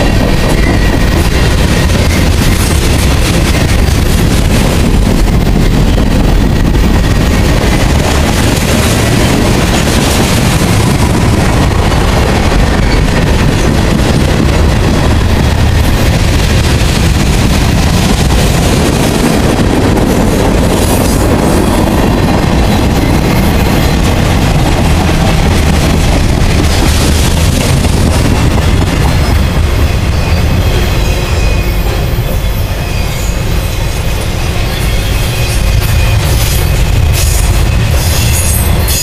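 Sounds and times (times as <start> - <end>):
steel wheels on track: 0.0 - 39.0.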